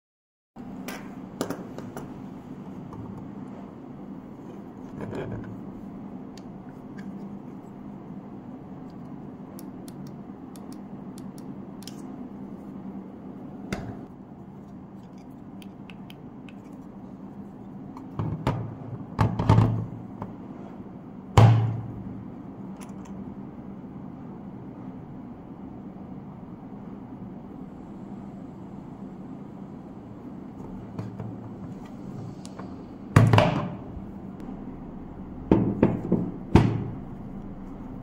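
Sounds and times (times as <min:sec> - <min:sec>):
faint steady hum: 0:00.6 - 0:38.0.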